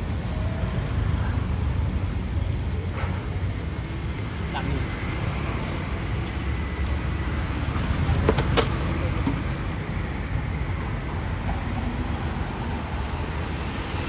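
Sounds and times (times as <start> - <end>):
low rumble of street traffic: 0.0 - 14.0.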